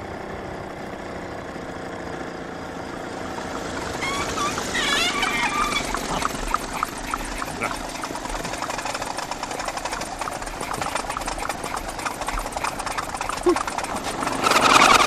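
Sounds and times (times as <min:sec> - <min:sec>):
moped engine idling: 0:00.0 - 0:15.0.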